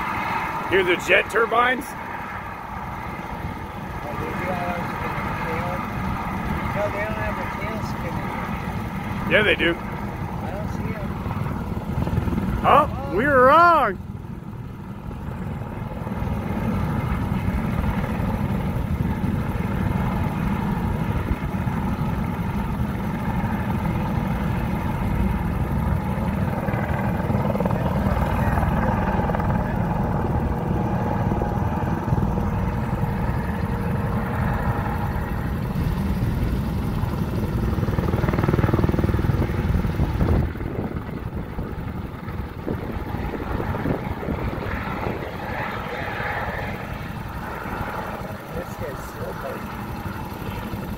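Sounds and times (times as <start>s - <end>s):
jet turbine whine: 0.0s - 50.9s
low rumble of helicopter rotors: 0.0s - 50.9s.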